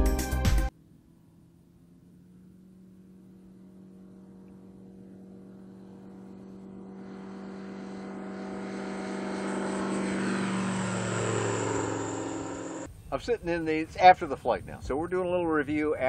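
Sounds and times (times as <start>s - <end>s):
aircraft engine and propeller droning: 0.0s - 13.1s.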